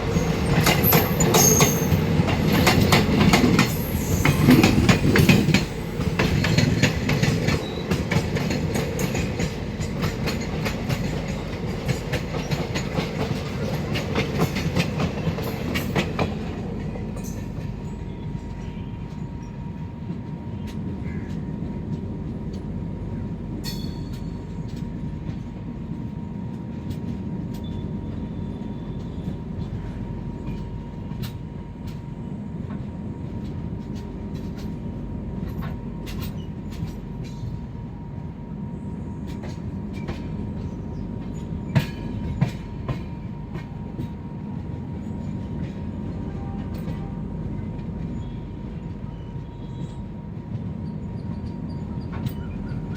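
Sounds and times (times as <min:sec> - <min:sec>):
train rumbling: 0:00.0 - 0:52.9.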